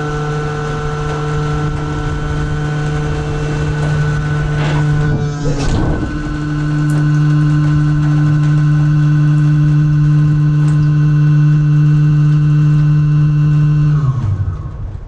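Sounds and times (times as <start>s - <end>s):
compactor drive humming: 0.0s - 15.0s.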